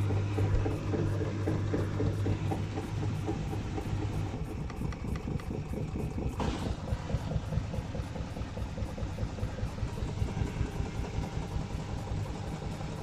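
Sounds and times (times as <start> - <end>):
washing machine drum knocking: 0.0 - 13.0.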